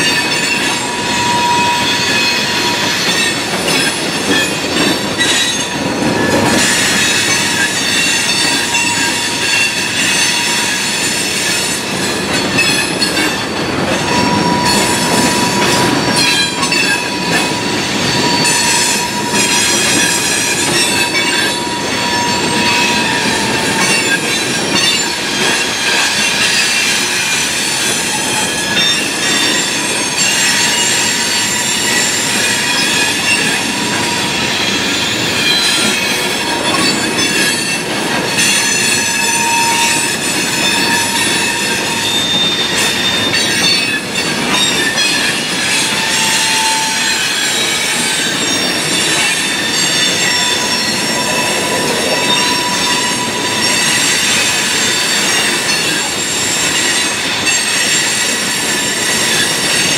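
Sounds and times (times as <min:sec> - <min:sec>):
high-pitched wheel squeal: 0:00.0 - 0:59.9
steel wheels rumbling on rail: 0:00.0 - 0:59.9.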